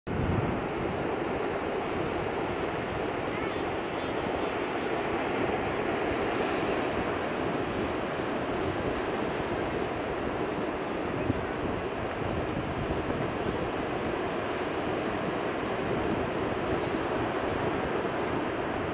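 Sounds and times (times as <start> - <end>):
wind buffeting microphone: 0.1 - 4.5, 6.9 - 18.9
ocean surf washing ashore: 0.1 - 18.9.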